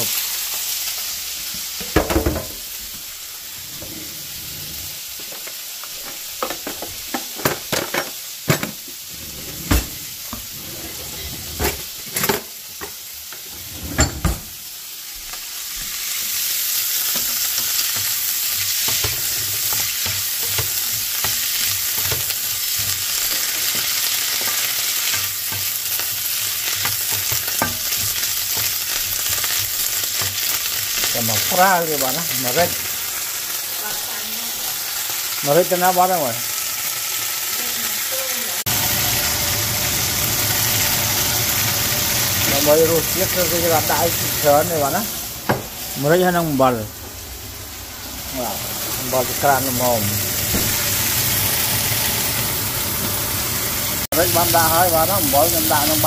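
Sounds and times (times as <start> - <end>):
vegetables sizzling in a pan: 0.0 - 13.8, 14.4 - 56.0.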